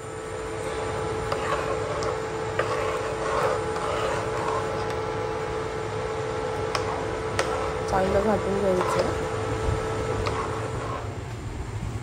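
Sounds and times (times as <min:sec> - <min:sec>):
steady hum: 0:00.0 - 0:12.0
spoon stirring mashed vegetables: 0:00.4 - 0:11.1.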